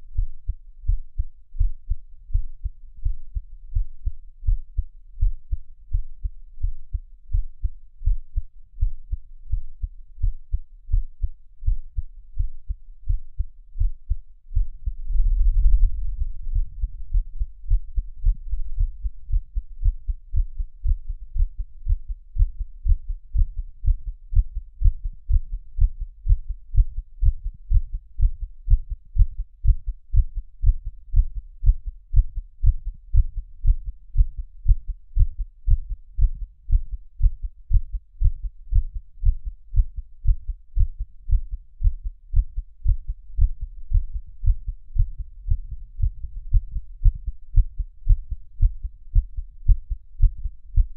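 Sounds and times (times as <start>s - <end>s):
human heartbeat thumps: 0.1s - 50.9s.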